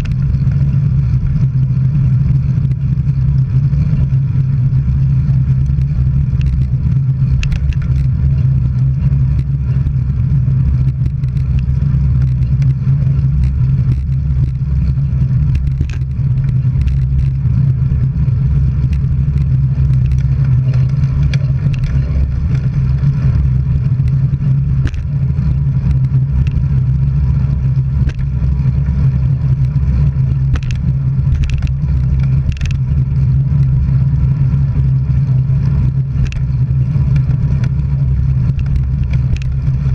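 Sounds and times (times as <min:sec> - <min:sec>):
faint clicks and rattles: 0:00.0 - 0:39.9
vehicle engine and tyre noise: 0:00.0 - 0:39.9.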